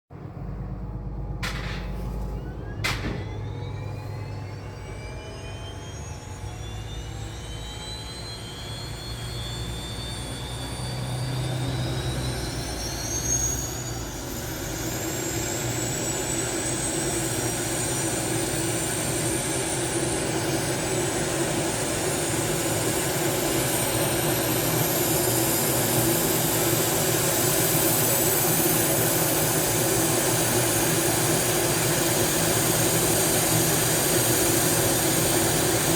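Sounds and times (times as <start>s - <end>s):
turbine whine rising in pitch: 0.2s - 35.9s.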